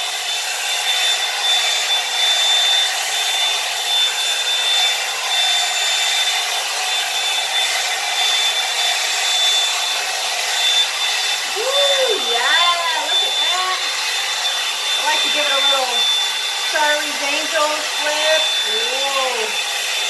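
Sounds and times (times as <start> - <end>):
hair dryer blowing with whine: 0.0 - 20.0.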